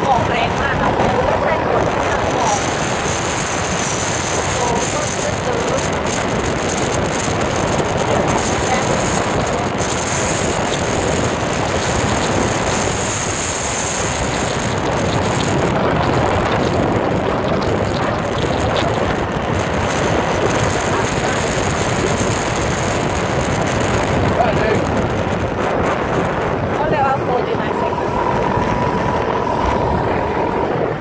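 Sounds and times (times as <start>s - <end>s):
motorbike road noise on wet road: 0.0s - 31.0s
wind on microphone: 0.0s - 31.0s.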